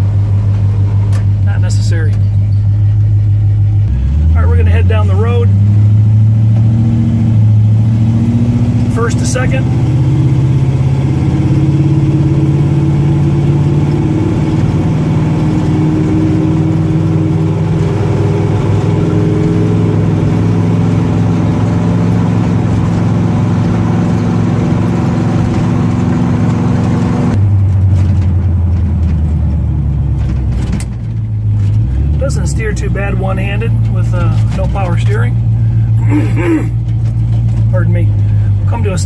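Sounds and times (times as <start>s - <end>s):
pickup truck engine accelerating: 0.0s - 39.0s.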